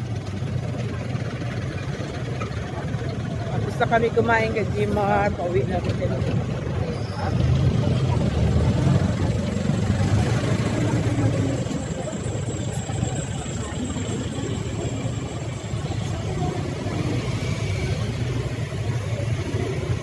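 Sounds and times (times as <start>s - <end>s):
road noise: 0.0s - 20.0s
vehicle engines idling: 0.0s - 20.0s.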